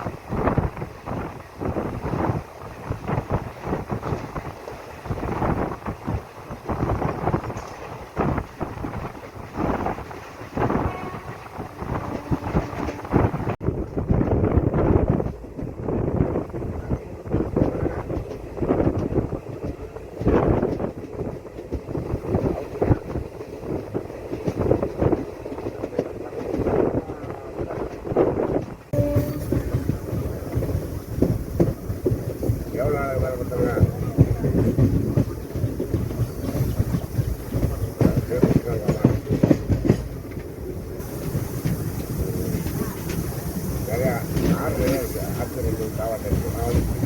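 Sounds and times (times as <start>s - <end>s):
train rattling and knocking: 0.0s - 47.0s
wind buffeting microphone: 0.0s - 47.0s.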